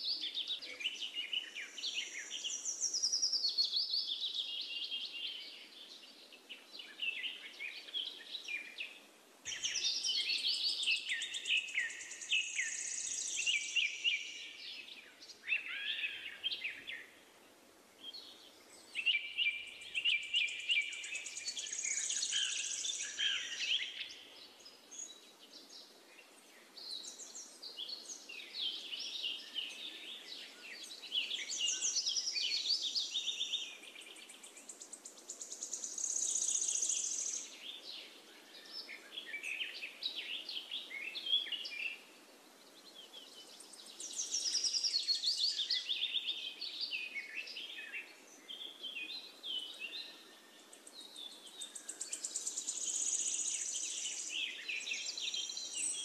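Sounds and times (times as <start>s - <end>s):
birds chirping and trilling: 0.1s - 17.2s, 18.0s - 56.0s.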